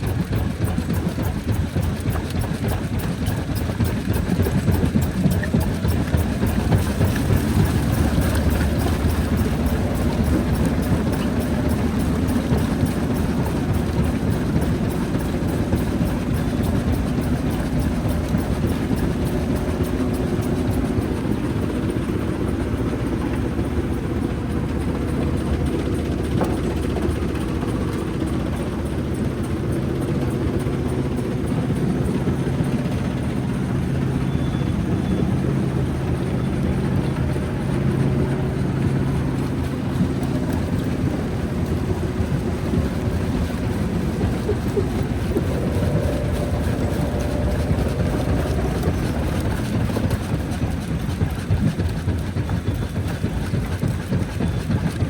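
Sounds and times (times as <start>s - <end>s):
heavy machine hum: 0.0s - 55.0s.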